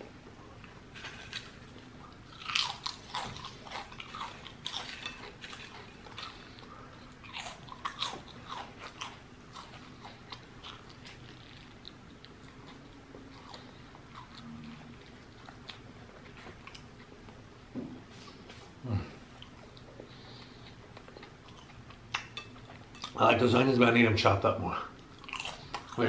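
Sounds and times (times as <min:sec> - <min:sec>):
person chewing food: 0:00.4 - 0:17.5, 0:18.2 - 0:23.2, 0:24.9 - 0:26.0.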